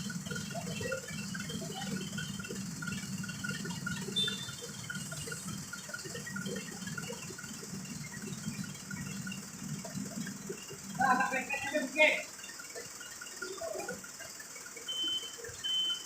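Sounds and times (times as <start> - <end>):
engine humming at low speed: 0.0 - 16.0.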